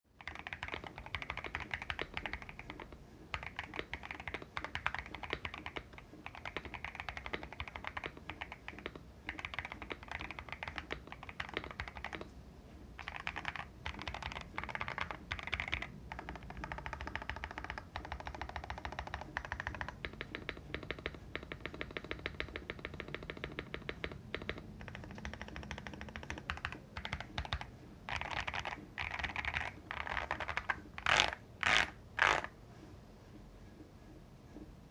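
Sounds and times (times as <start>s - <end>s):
mechanical keyboard typing: 0.2s - 12.3s, 13.0s - 32.5s.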